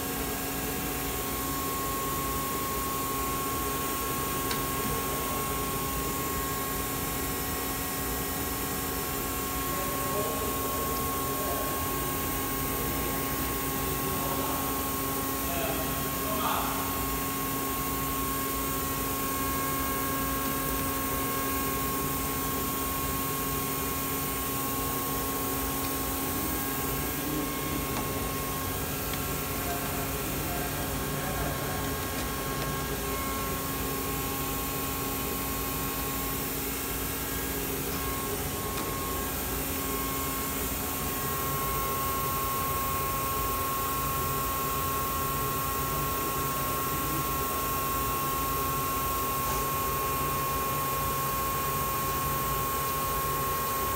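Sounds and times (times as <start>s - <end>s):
milling machine idling hum: 0.0s - 53.9s.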